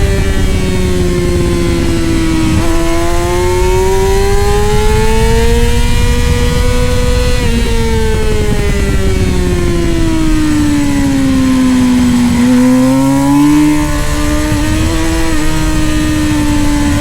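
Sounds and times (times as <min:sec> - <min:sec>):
racing motorcycle engine: 0:00.0 - 0:17.0
wind rushing: 0:00.0 - 0:17.0.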